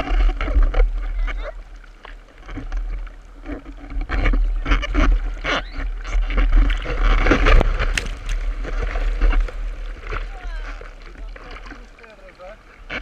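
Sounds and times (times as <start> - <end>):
whitewater rushing around surfboard: 0.0 - 13.0.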